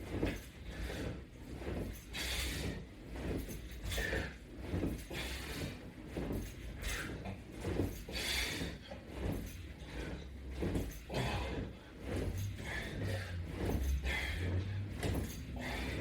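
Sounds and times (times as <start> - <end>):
exercise hardware rattling and clinking: 0.1 - 16.0.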